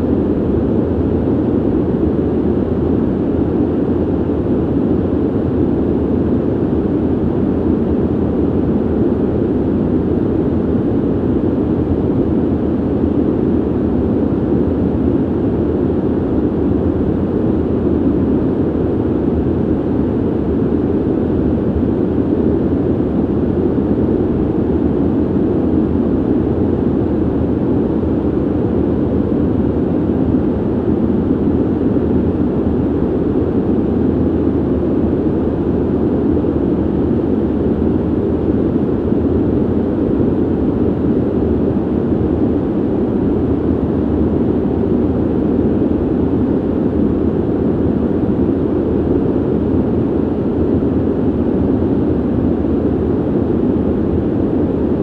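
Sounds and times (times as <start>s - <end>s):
low ventilation rush: 0.0s - 55.0s.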